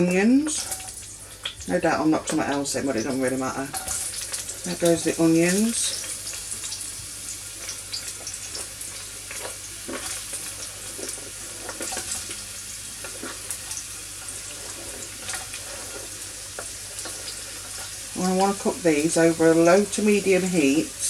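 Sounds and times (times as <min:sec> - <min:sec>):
onion sizzling in a frying pan: 0:00.0 - 0:21.0.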